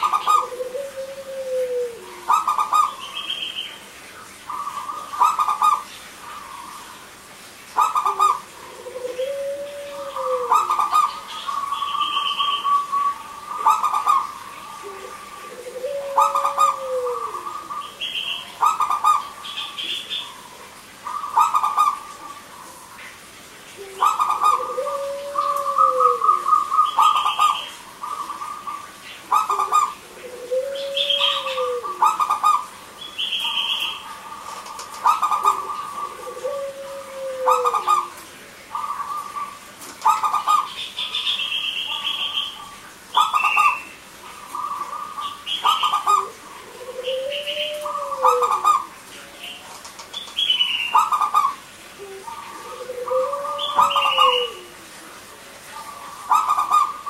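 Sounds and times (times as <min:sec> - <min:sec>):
doves cooing: 0:00.0 - 0:03.7, 0:04.4 - 0:23.1, 0:23.7 - 0:57.0.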